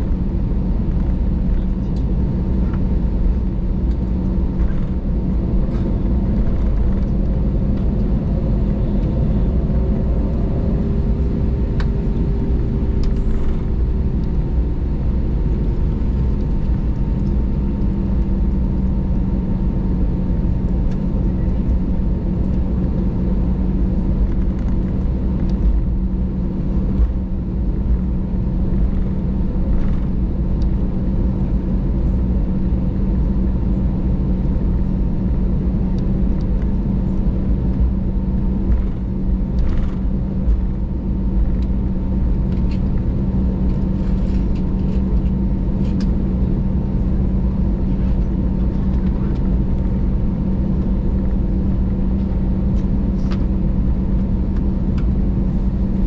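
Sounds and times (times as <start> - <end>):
airplane engines droning: 0.0 - 56.0.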